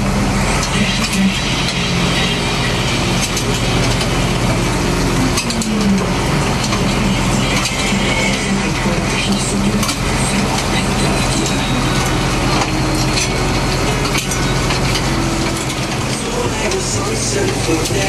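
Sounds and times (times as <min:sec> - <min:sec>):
boat engine and hauling gear humming: 0:00.0 - 0:18.0
falling whine: 0:00.0 - 0:18.0.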